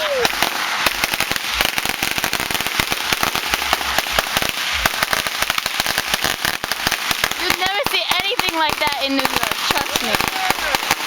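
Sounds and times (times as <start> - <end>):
firecracker string bangs: 0.0 - 11.0.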